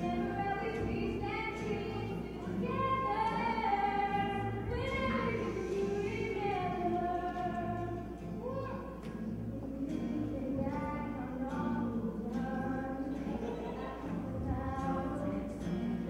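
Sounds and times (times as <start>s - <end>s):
acoustic guitar: 0.0s - 16.0s
woman singing into a microphone: 0.0s - 16.0s.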